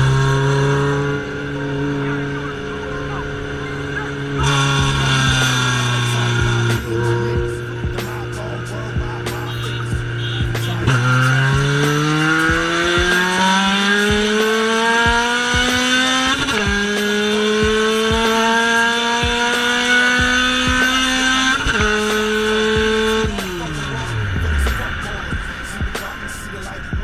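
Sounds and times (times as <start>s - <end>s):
car engine revving at full throttle: 0.0s - 27.0s.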